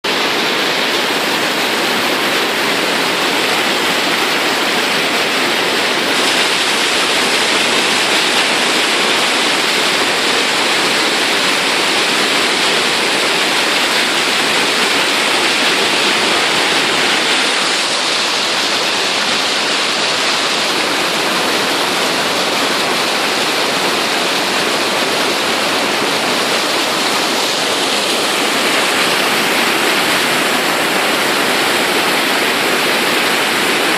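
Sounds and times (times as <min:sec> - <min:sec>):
waterfall rushing roar: 0:00.0 - 0:33.9.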